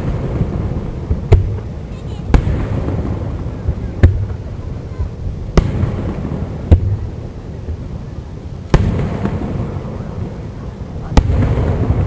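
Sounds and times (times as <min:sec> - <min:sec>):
firework shells booming: 0:00.0 - 0:08.0, 0:08.6 - 0:12.0.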